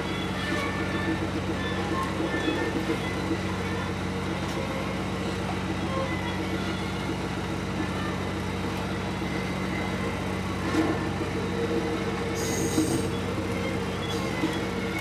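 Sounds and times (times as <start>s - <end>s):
train car running hum: 0.0s - 15.0s
wheels rumbling on rail: 0.0s - 15.0s.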